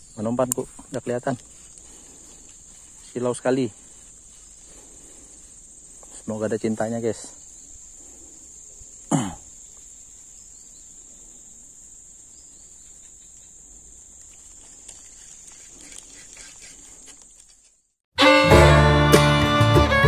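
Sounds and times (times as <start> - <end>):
crickets droning: 0.0 - 18.0.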